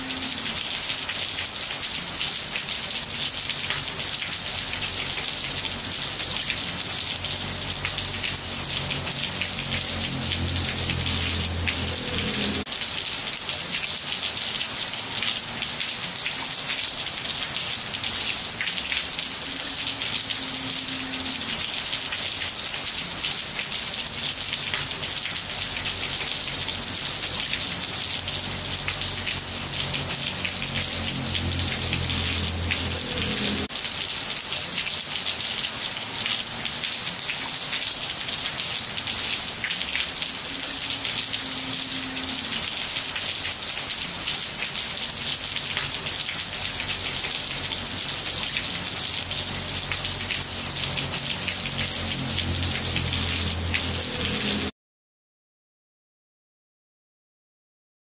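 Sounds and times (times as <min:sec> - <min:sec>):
rain falling on roof tiles: 0:00.0 - 0:54.7.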